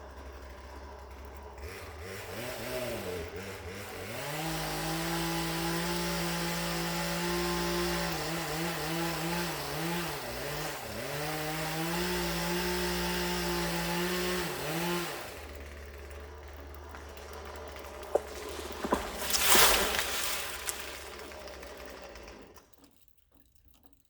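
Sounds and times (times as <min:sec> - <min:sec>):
chainsaw running at high revs: 0:00.0 - 0:22.7.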